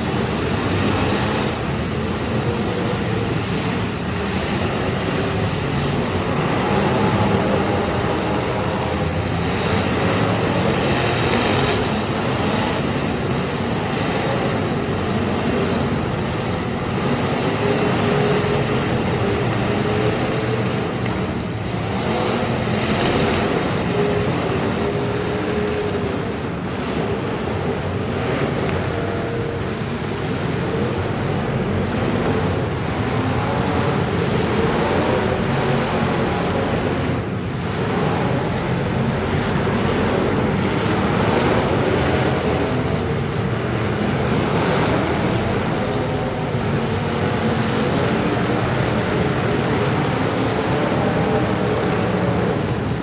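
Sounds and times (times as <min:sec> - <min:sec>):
car engines running together: 0:00.0 - 0:53.0.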